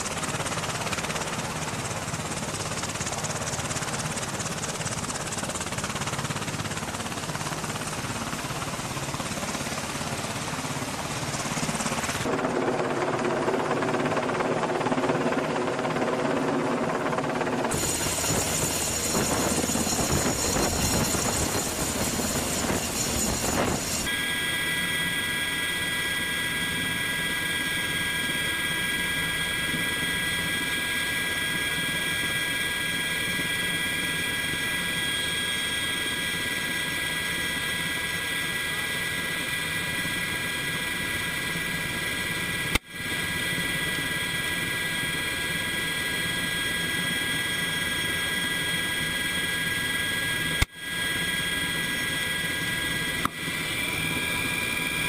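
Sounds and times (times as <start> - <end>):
helicopter rotor rushing: 0.0 - 55.0
high whine inside helicopter cabin: 0.0 - 55.0.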